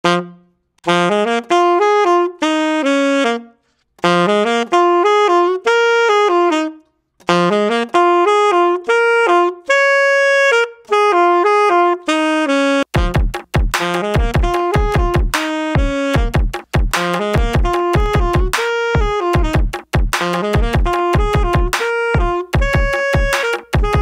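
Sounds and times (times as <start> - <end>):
saxophone melody: 0.0 - 24.0.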